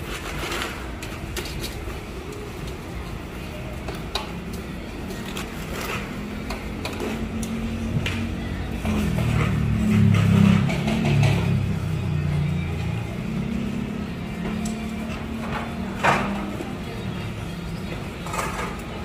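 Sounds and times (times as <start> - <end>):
music: 0.1 - 19.0
background chatter: 1.2 - 19.0.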